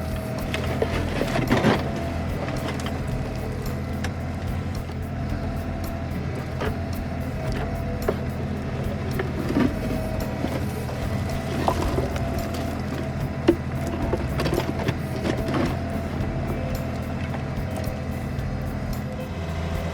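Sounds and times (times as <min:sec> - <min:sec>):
backhoe knocks and clanks: 0:00.0 - 0:19.9
tractor diesel engine running: 0:00.0 - 0:19.9.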